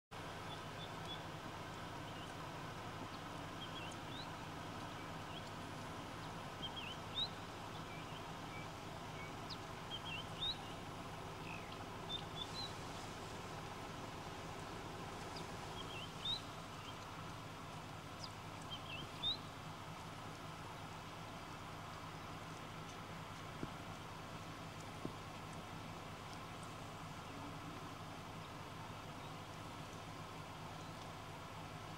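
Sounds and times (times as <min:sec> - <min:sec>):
steady low hum: 0:00.2 - 0:31.9.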